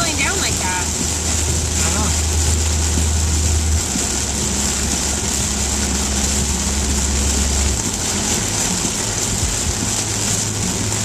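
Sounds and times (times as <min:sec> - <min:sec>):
engine and road rumble: 0:00.0 - 0:11.0
rain and tyres hissing: 0:00.0 - 0:11.0.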